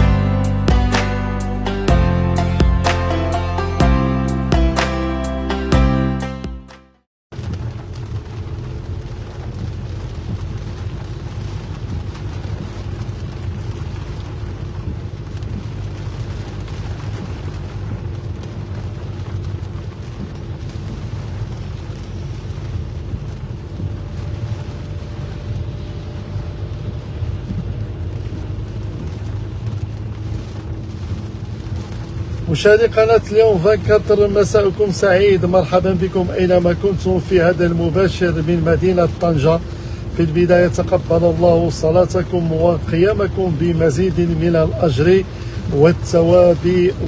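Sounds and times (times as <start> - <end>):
car driving on wet road: 7.3 - 47.0.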